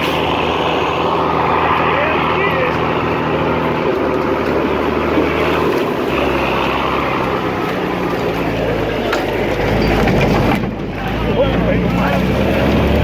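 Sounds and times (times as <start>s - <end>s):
diesel engine running under load: 0.0s - 13.0s
steady rushing noise: 0.0s - 13.0s.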